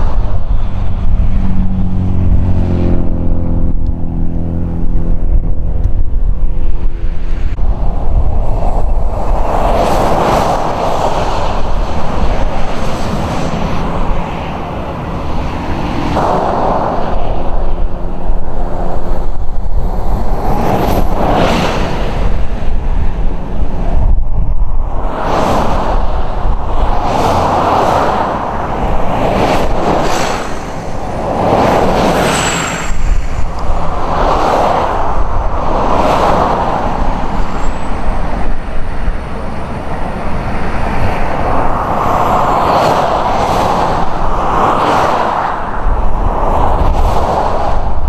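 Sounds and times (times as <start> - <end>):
propeller plane engine: 0.0 - 48.0.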